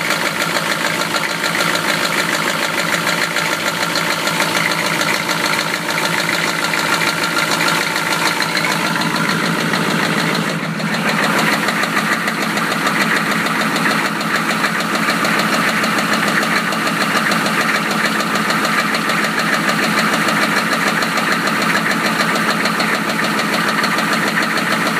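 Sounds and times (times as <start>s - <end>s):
car engine knocking: 0.0s - 24.9s.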